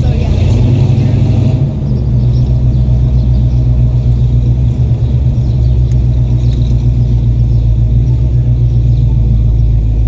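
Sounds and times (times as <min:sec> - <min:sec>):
truck exhaust rumbling: 0:00.0 - 0:10.0.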